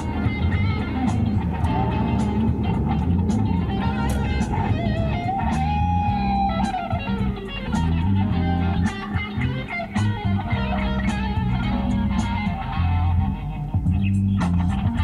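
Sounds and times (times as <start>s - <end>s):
bass line: 0.0s - 15.0s
electric guitar: 0.0s - 15.0s
steady beat: 0.0s - 15.0s.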